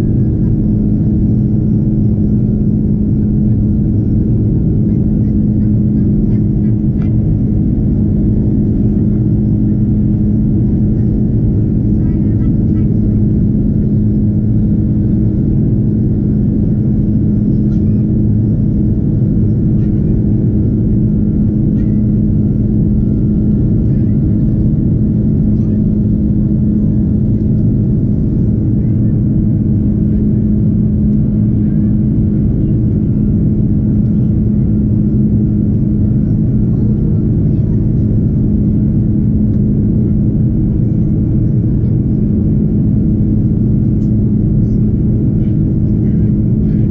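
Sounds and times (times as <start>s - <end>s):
airplane cabin engine drone: 0.0s - 46.9s.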